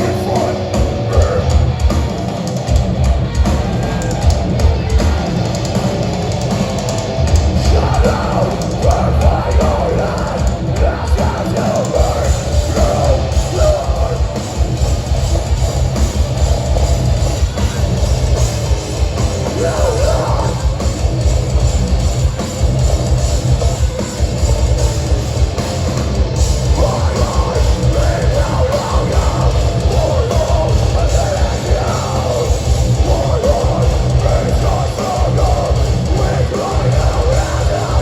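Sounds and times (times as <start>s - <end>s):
driving drums: 0.0s - 38.0s
heavy distorted guitars: 0.0s - 38.0s.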